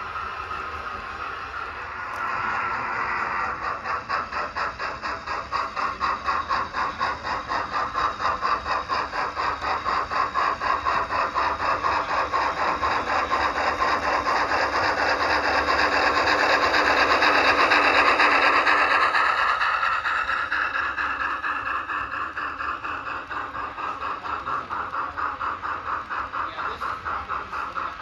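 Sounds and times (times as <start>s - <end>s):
model train clattering: 0.0s - 28.0s.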